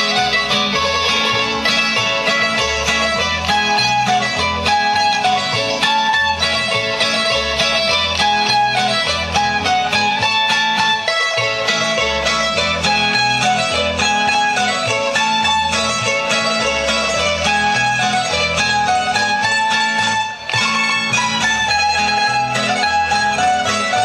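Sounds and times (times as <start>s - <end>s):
folk dance music on plucked strings: 0.0s - 24.0s.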